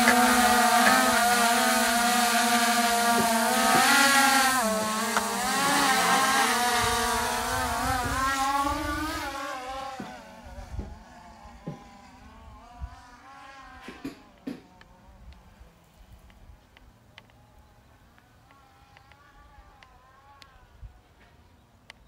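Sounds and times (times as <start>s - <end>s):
drone propellers buzzing: 0.0s - 21.2s.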